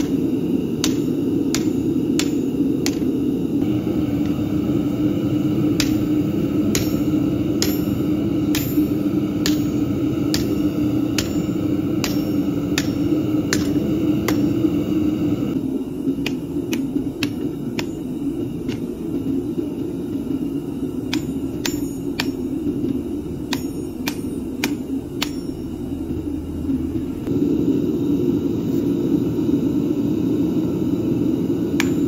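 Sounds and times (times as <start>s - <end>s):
hammer striking hot metal on anvil: 0.0s - 26.3s, 31.6s - 32.0s.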